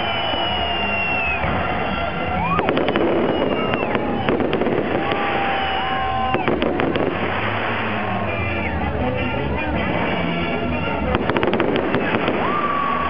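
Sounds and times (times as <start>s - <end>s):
fireworks bursting: 0.0s - 13.0s
sharp crackling reports: 0.6s - 13.0s.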